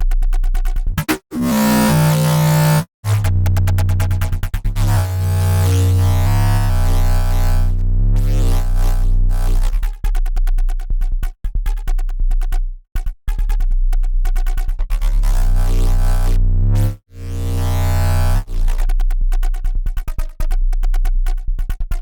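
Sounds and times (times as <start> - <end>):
synth bass riff: 0.0 - 10.2, 13.0 - 20.5.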